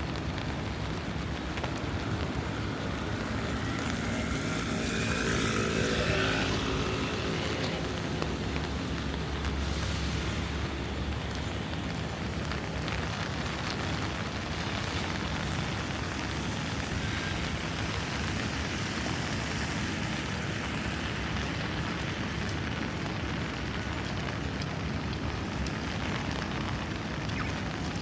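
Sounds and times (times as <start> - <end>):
rain on street: 0.0 - 28.0
traffic rumble: 0.0 - 28.0.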